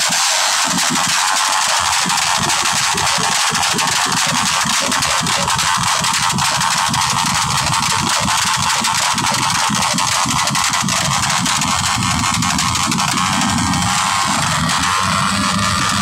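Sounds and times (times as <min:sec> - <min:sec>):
motorcycle engine revving: 0:00.8 - 0:16.0.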